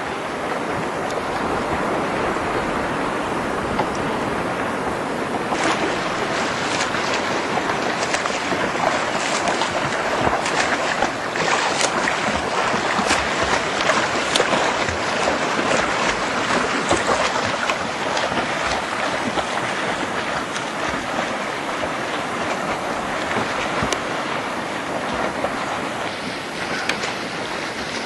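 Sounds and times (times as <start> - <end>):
sea water splashing: 0.0 - 28.0
swimmers' strokes splashing: 0.0 - 28.0
wind on microphone: 0.0 - 28.0.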